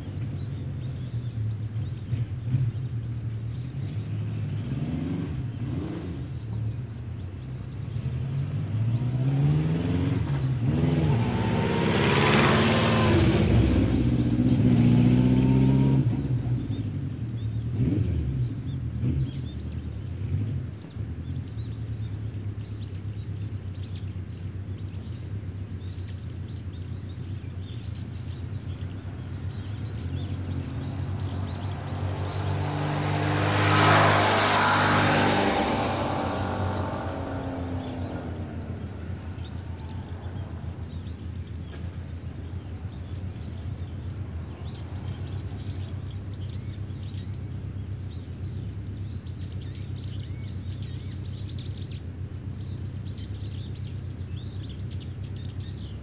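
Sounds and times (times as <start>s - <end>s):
motor vehicles passing by: 0.0s - 56.0s
small birds chirping: 0.0s - 56.0s.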